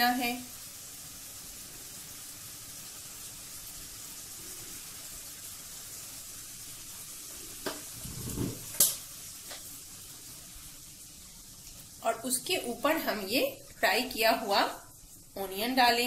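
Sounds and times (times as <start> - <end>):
gravy simmering with sizzling hiss: 0.0 - 16.0.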